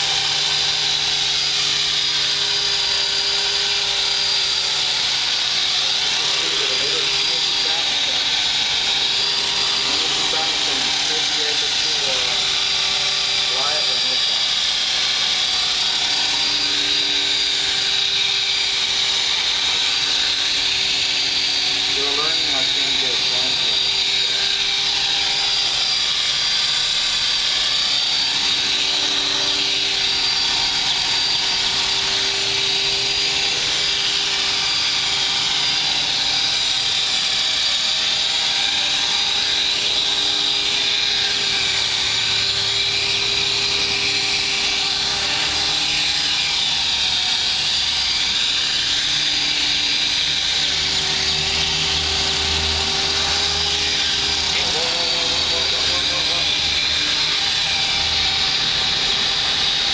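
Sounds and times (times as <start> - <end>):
rc helicopter motor whine: 0.0 - 59.9
rotor buzz: 0.0 - 59.9.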